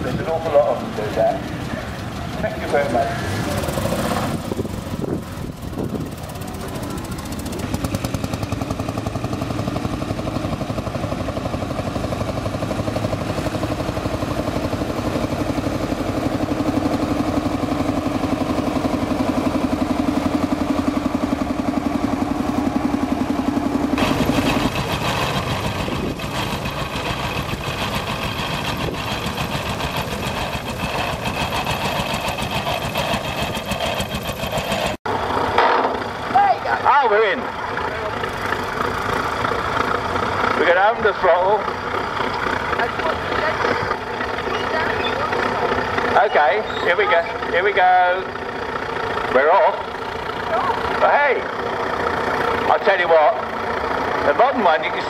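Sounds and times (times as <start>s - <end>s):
bright busy engine clatter: 0.0s - 55.0s
engine running with fast beat: 0.0s - 55.0s.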